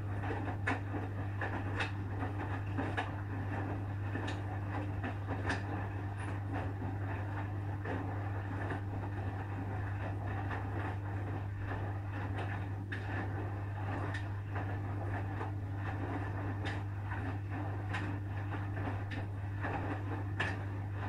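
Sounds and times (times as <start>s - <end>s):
washing machine motor and drum hum: 0.0s - 21.0s.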